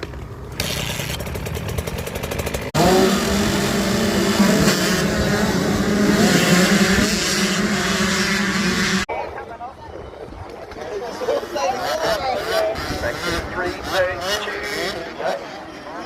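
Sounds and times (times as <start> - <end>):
motocross bike engines revving: 0.1 - 9.1, 10.9 - 16.0.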